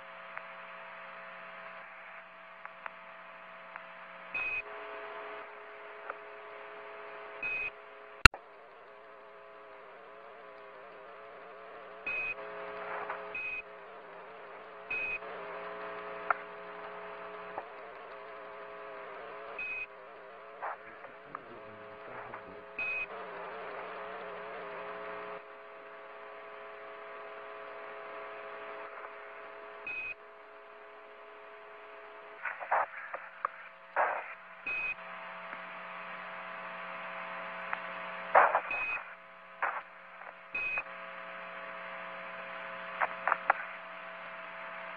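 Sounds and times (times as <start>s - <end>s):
crackling bursts: 0.0s - 44.9s
radio hiss and hum: 0.0s - 44.9s
steady radio tones: 0.0s - 44.9s.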